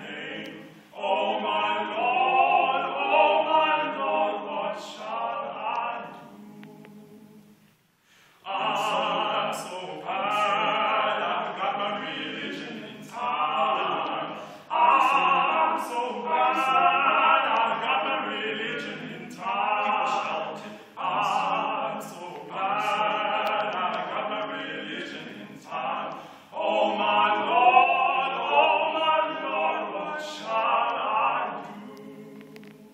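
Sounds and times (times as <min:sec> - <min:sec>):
male vocal quartet singing: 0:00.0 - 0:07.6, 0:08.3 - 0:32.9.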